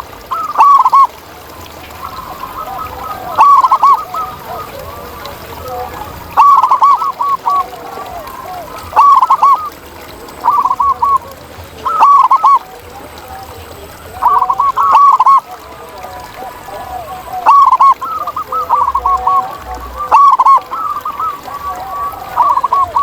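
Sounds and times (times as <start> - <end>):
dove cooing: 0.0 - 23.0
fainter lower bird calls: 0.0 - 23.0.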